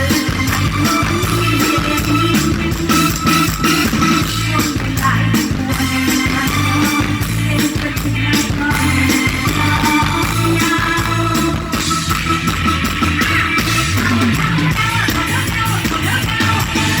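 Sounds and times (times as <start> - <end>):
bass beat: 0.0 - 17.0
live band music over sound system: 0.0 - 17.0.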